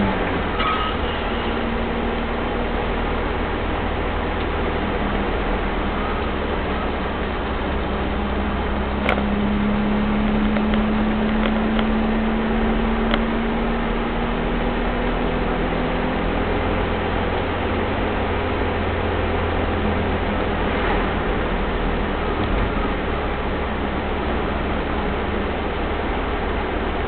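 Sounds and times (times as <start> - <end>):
diesel engine drone from cabin: 0.0 - 27.0
road noise: 0.0 - 27.0.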